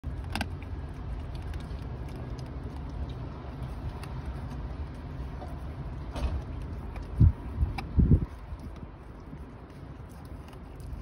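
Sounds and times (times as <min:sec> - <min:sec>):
dog licking and mouthing: 0:00.0 - 0:11.0
steady low rumble: 0:00.0 - 0:11.0.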